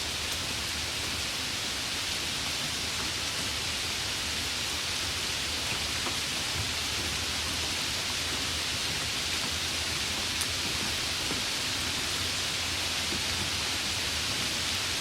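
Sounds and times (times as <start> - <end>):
heavy rain hissing: 0.0 - 15.0
raindrops ticking: 2.5 - 15.0.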